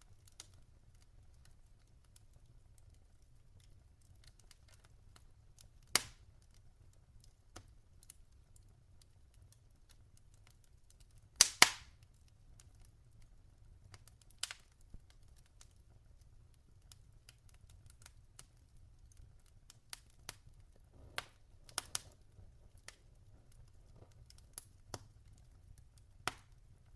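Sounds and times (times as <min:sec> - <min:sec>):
logs crackling in fireplace: 0:00.0 - 0:26.9.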